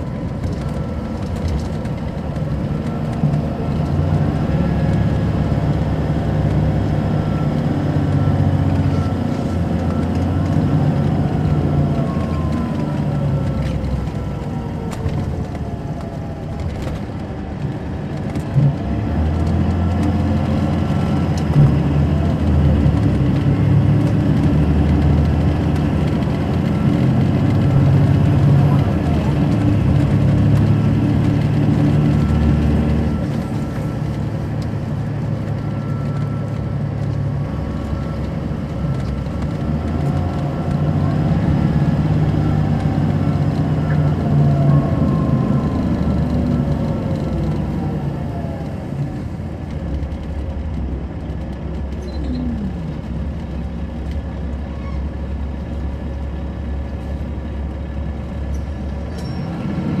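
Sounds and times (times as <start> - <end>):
bus diesel engine running: 0.0 - 60.0.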